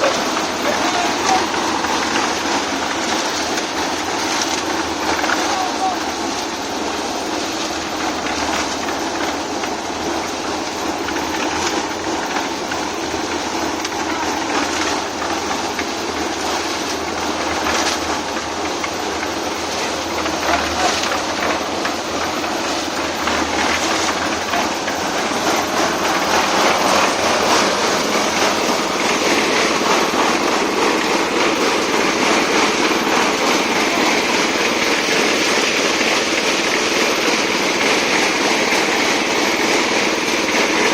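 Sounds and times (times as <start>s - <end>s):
machine rattling clatter: 0.0s - 40.9s.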